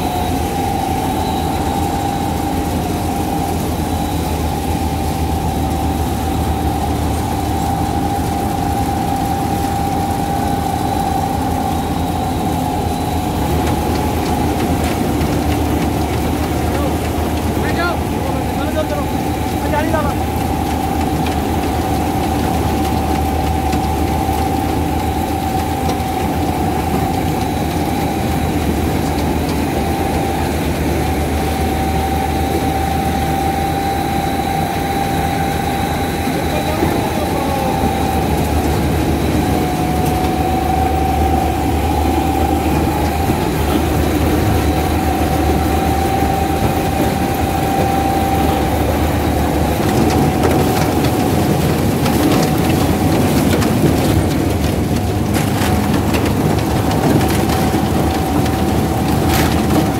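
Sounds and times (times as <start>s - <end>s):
combine harvester engine drone: 0.0s - 59.9s
high-pitched machine whine: 0.0s - 59.9s.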